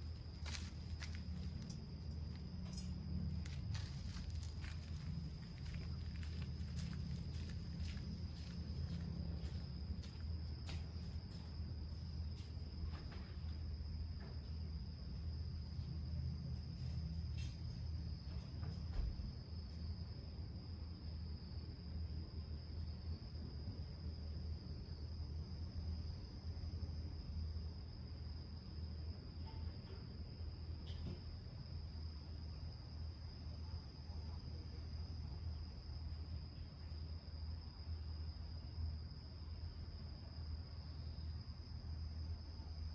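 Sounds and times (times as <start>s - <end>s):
insect chirp pulsing: 0.0s - 42.9s.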